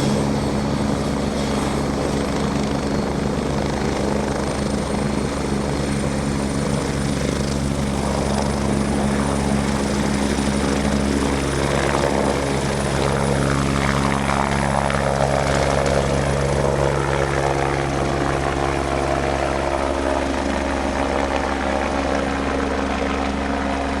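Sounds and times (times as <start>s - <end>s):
helicopter rotor and turbine whine: 0.0s - 24.0s.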